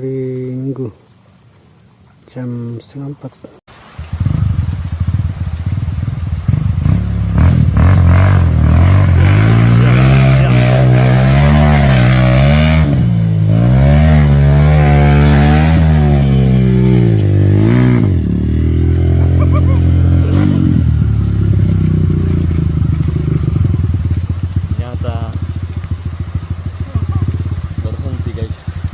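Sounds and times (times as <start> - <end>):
dirt bike engine revving: 4.2 - 28.9.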